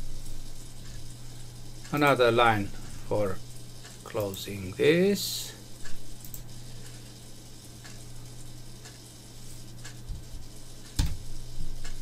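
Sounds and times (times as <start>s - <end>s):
microphone electrical hum and hiss: 0.0s - 12.0s.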